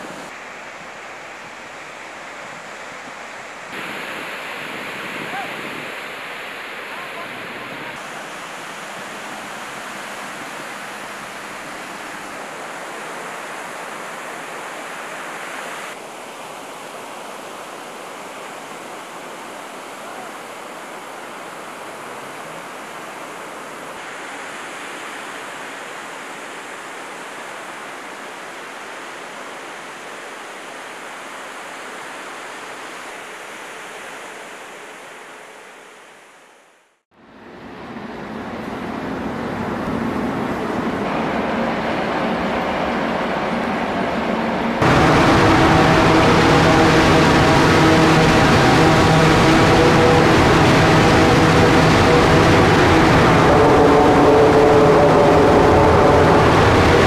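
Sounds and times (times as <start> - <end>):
waves breaking on beach: 0.0 - 36.7, 37.4 - 57.0.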